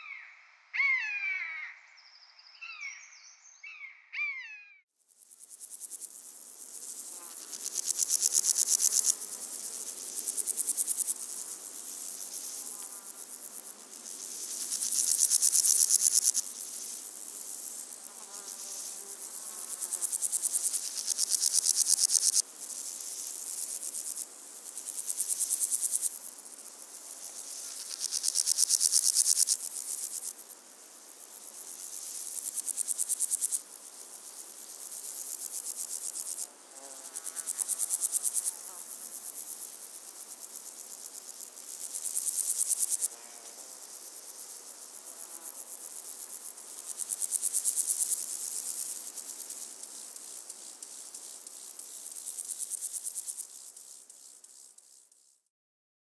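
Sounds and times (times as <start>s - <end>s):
insects chirping: 0.0s - 4.3s, 5.0s - 55.5s.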